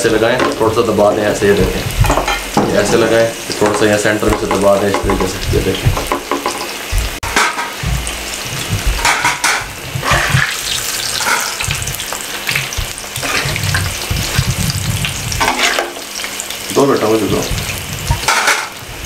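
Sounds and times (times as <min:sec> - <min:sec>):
food deep-frying in oil: 0:00.0 - 0:19.0
spatula turning food in oil: 0:00.2 - 0:19.0.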